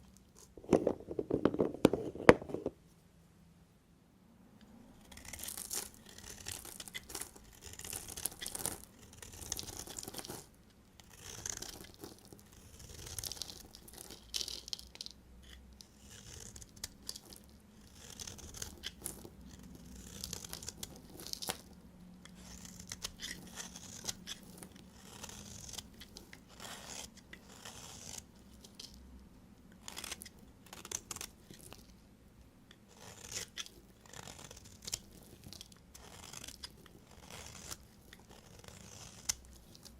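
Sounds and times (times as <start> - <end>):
knife scraping through soap: 5.0 - 14.7, 15.4 - 29.0, 29.8 - 31.8, 32.9 - 39.9.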